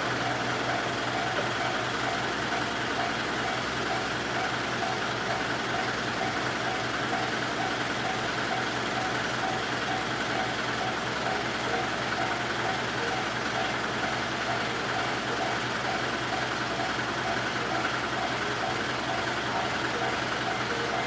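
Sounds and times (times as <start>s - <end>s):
railway crossing bell ringing: 0.0s - 21.0s.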